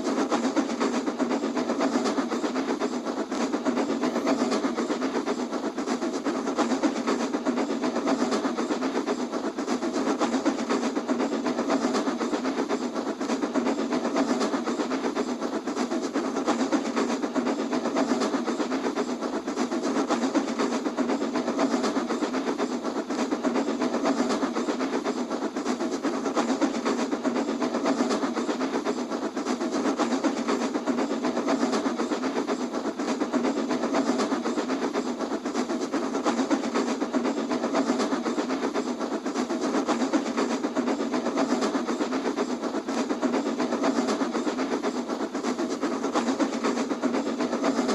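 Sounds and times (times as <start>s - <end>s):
fast mechanical clatter: 0.0s - 47.9s.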